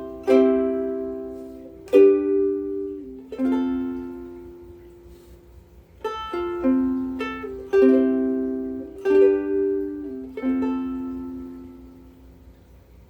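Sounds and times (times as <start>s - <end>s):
ukulele strummed chords: 0.0s - 12.5s.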